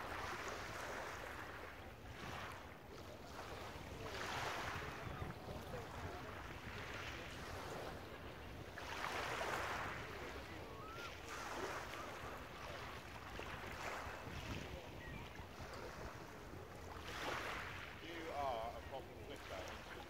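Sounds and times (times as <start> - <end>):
wind rumble on microphone: 0.0 - 18.0
waves washing on shingle: 2.3 - 20.0.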